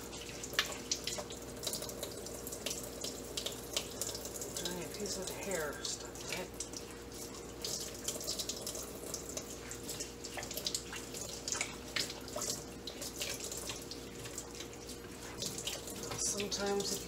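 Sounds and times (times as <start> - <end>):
faint steady hum: 0.0 - 17.0
faucet water splashing in sink: 0.0 - 17.0.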